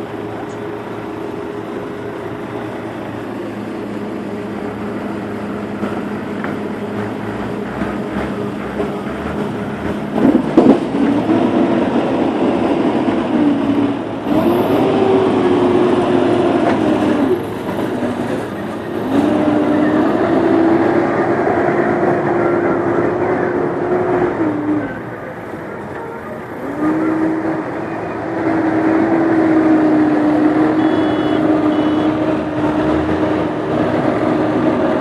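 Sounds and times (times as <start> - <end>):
excavator diesel engine under load: 0.0 - 35.0.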